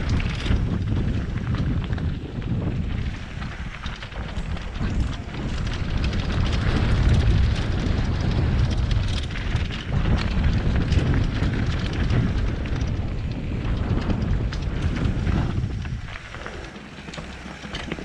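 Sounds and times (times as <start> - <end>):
bike rattling and knocking: 0.0 - 18.0
tyres rolling over loose stones: 0.0 - 18.0
wind rushing over microphone: 0.0 - 18.0.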